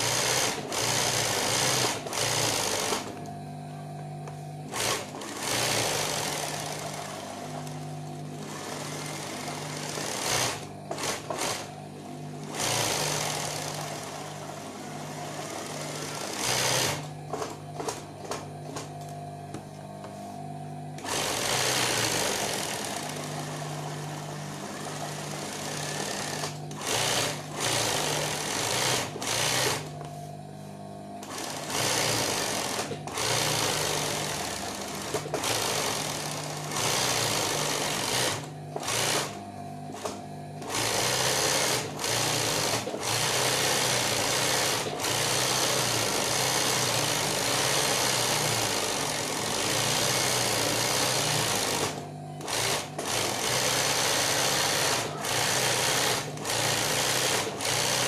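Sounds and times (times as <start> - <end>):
sewing machine stitching: 0.0 - 3.2, 4.7 - 18.9, 21.0 - 30.0, 31.2 - 58.0.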